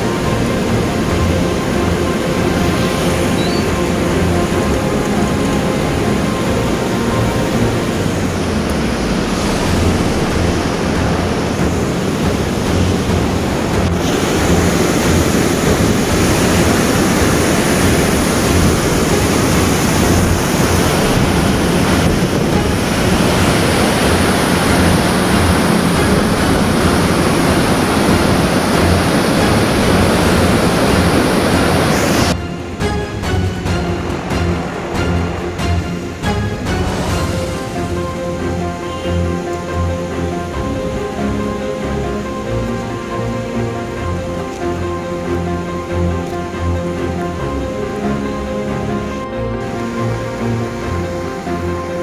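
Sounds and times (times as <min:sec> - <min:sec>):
floodwater rushing and churning: 0:00.0 - 0:52.0
wind buffeting microphone: 0:00.0 - 0:52.0.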